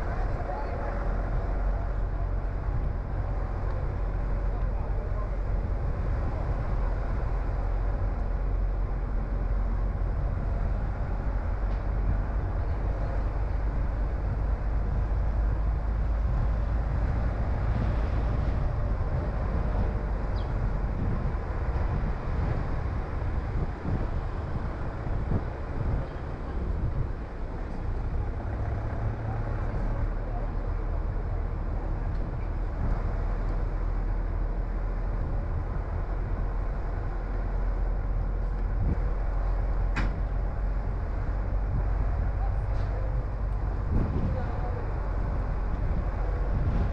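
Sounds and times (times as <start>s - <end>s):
car driving rumble: 0.0s - 46.9s.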